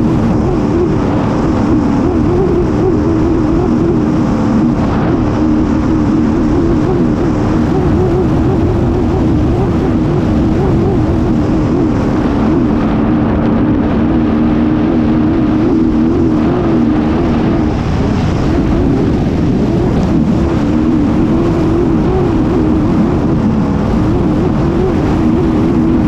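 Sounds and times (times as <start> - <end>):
boat engine running hard: 0.0 - 26.0
rushing wind: 0.0 - 26.0.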